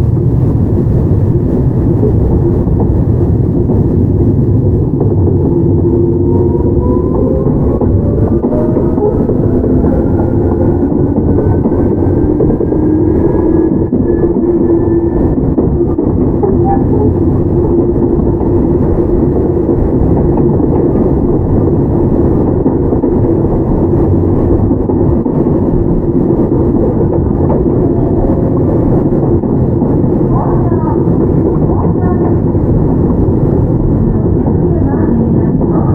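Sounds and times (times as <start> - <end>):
traction motor whine: 0.0 - 31.5
train wheels rumbling on track: 0.0 - 35.9.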